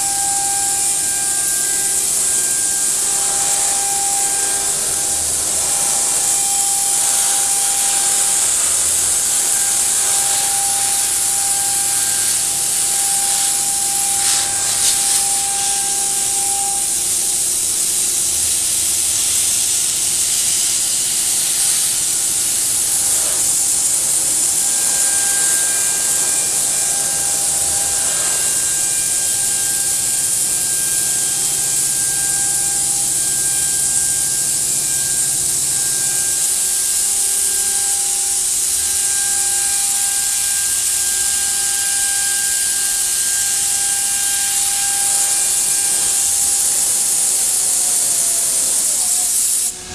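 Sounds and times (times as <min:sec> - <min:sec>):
machine whine: 0:00.0 - 0:49.9
milling machine spindle hiss: 0:00.0 - 0:49.9.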